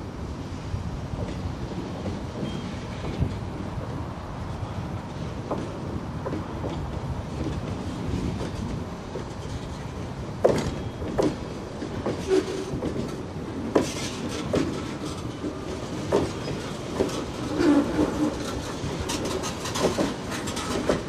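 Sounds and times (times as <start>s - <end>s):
freight cars rolling rumble: 0.0s - 21.0s
wheels clicking over rail joints: 1.1s - 21.0s.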